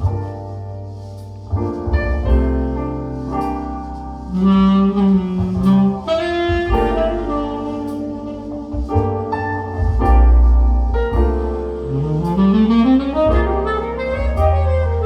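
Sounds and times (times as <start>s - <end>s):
music over loudspeakers with deep bass: 0.0s - 15.0s.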